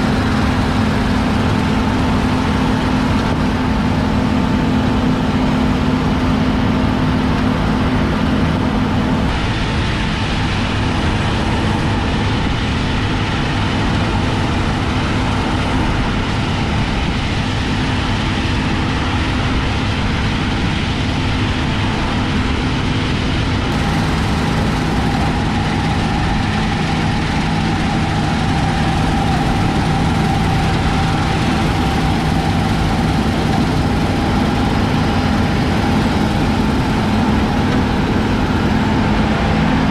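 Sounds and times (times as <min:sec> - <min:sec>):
combine harvester machinery drone: 0:00.0 - 0:39.9.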